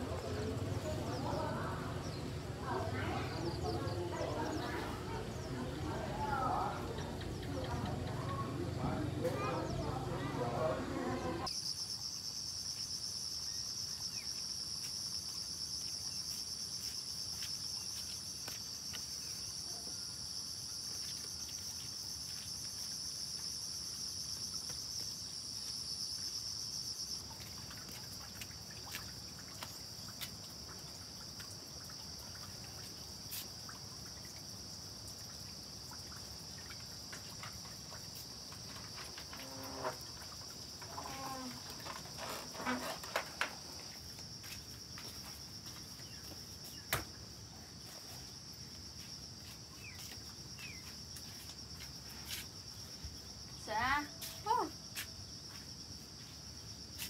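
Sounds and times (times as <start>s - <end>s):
insects chirping: 0.0s - 57.0s
pulsing insect chirring: 11.2s - 57.0s.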